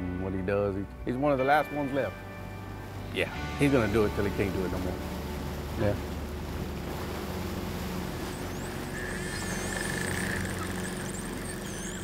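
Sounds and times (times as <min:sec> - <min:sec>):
birds chirping: 0:01.6 - 0:12.0
boat engine running: 0:01.8 - 0:12.0.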